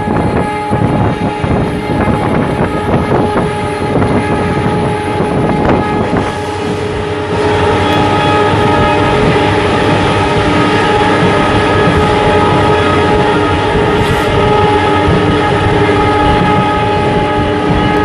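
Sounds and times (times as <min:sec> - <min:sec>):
train horn held: 0:00.0 - 0:18.0
train wheels clattering on rails: 0:00.0 - 0:18.0.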